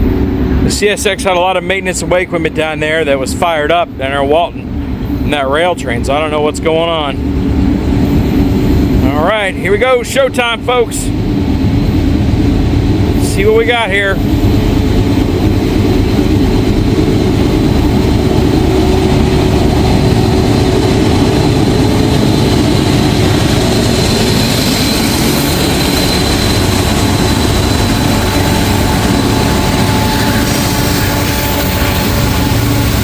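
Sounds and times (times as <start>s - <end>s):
diesel locomotive engines running: 0.0s - 33.0s
train wheels rolling on rails: 0.0s - 33.0s.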